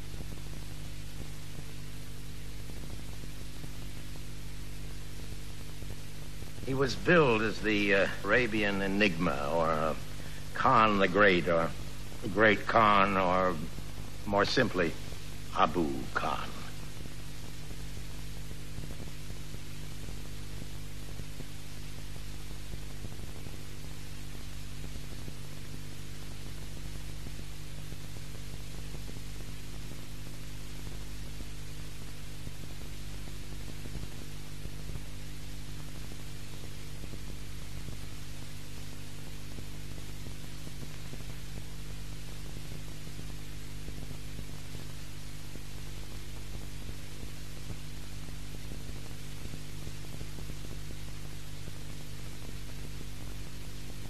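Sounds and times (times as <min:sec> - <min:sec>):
electrical hum: 0:00.0 - 0:54.0
tape hiss: 0:00.0 - 0:54.0.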